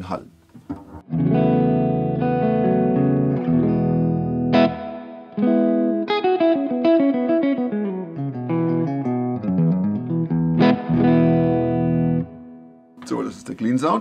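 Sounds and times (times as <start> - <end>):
clean electric guitar: 0.6 - 13.1.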